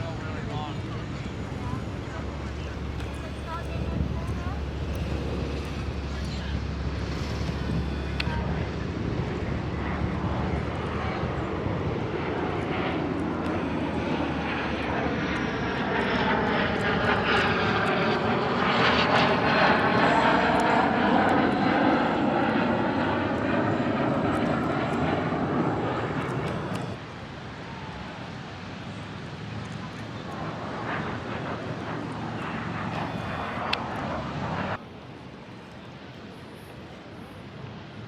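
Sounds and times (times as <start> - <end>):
jet aircraft flying past: 0.0 - 38.0.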